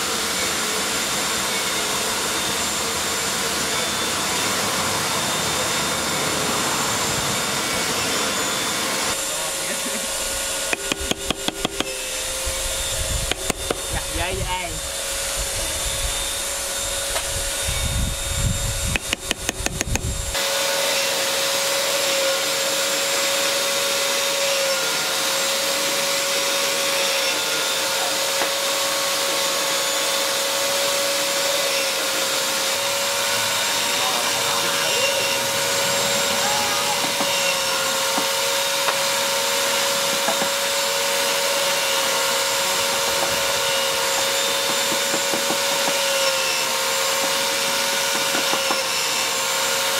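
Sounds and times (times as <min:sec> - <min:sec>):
electric drill whining: 0:00.0 - 0:49.9.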